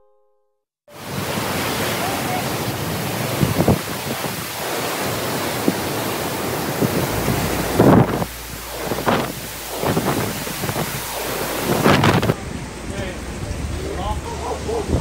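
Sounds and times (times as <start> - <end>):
hurricane wind and rain: 0.9 - 15.0
wind gusts buffeting microphone: 1.0 - 15.0.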